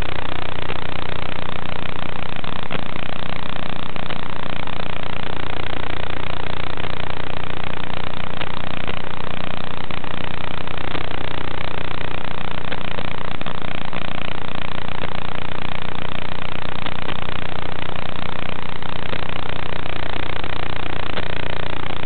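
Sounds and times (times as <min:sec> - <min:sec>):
loud static hiss: 0:00.0 - 0:22.0
low hum: 0:00.0 - 0:22.0.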